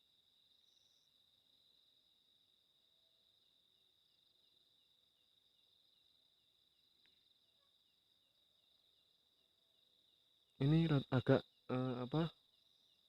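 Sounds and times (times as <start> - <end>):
insect high-pitched trill: 0.0 - 13.0
soft insect chirp: 0.0 - 13.0.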